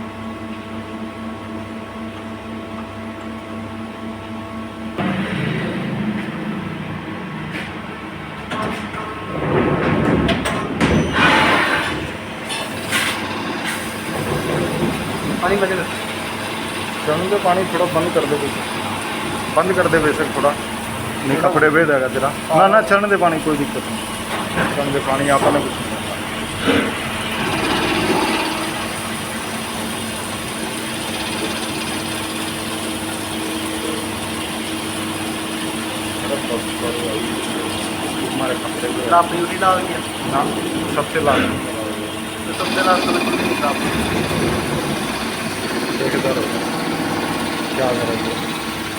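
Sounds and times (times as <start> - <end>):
lathe mechanical rumble: 0.0 - 48.9.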